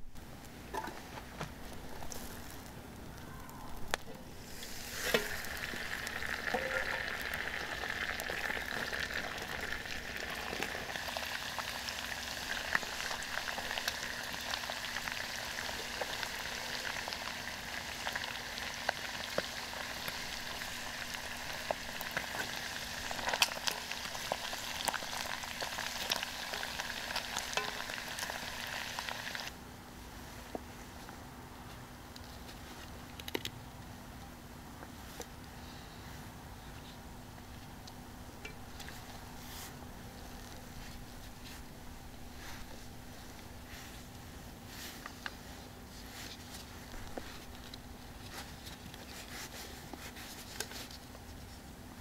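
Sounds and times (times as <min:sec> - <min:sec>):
chicken frying with pops and crackles: 0:00.0 - 0:29.6, 0:37.2 - 0:52.0.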